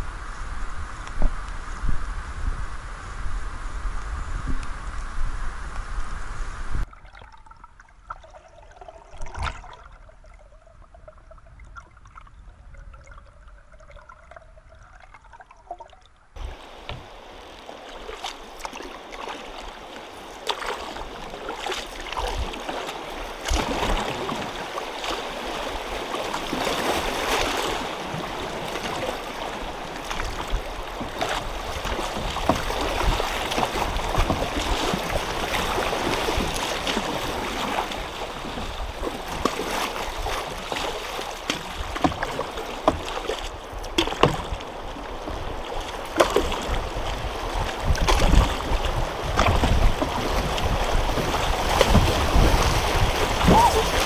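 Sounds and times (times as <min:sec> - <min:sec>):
river water splashing against canoe: 0:06.8 - 0:11.1, 0:11.7 - 0:54.0.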